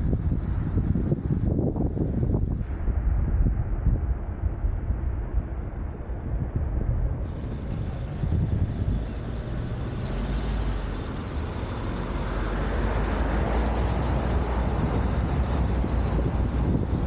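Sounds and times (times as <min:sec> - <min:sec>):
car engine and road rumble: 0:00.0 - 0:17.0
wind on microphone: 0:00.0 - 0:17.0.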